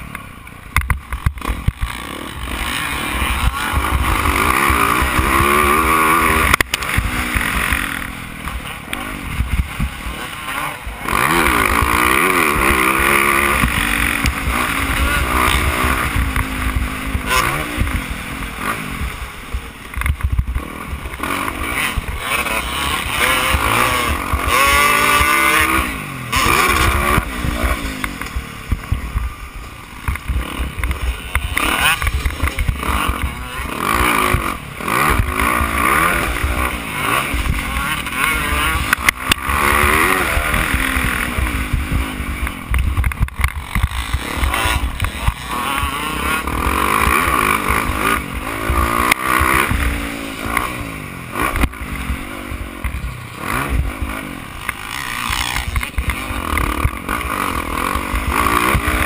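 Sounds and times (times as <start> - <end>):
motocross bike engine revving: 0.0 - 59.0
ride noise from rough ground: 0.0 - 59.0.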